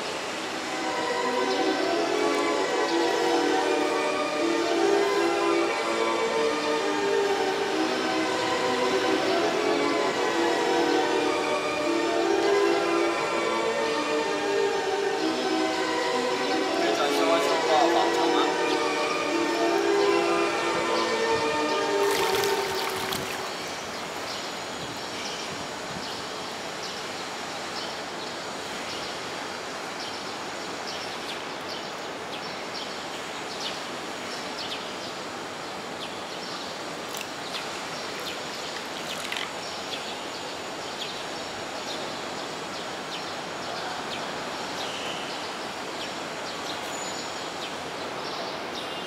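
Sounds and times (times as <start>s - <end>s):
steady background noise: 0.0s - 49.0s.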